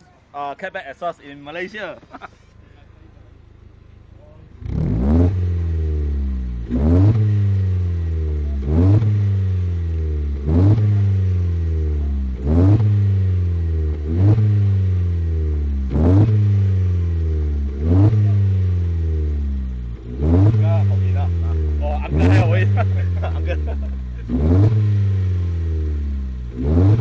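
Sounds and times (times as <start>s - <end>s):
car engine revving: 3.4s - 27.0s.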